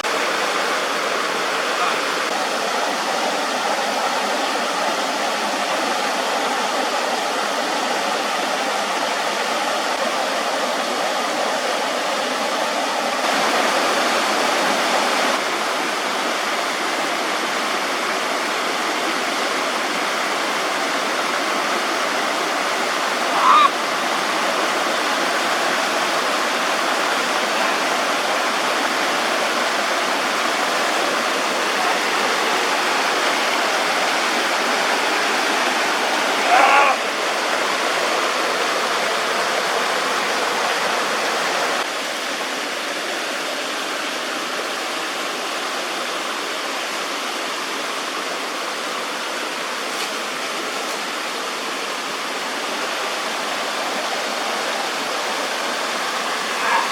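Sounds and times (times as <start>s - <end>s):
water rushing: 0.0s - 56.9s.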